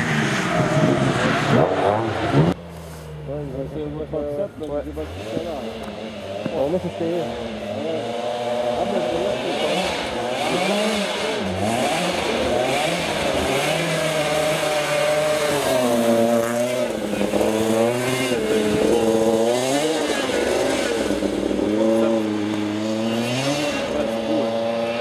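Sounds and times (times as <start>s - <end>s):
rally car engines revving: 0.0s - 25.0s.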